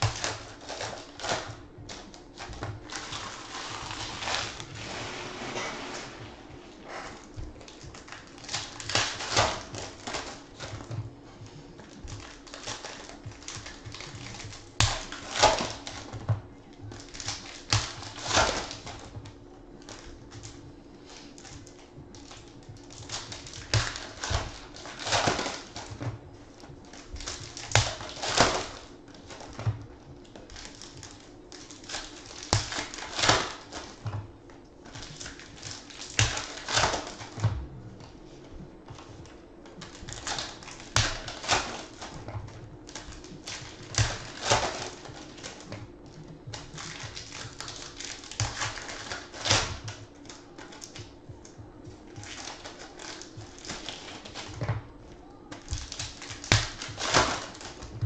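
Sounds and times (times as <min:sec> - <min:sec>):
foil wrappers crinkling and tearing: 0:00.0 - 0:34.2, 0:34.8 - 0:38.1, 0:38.8 - 0:58.0
faint steady hum: 0:00.0 - 0:58.0.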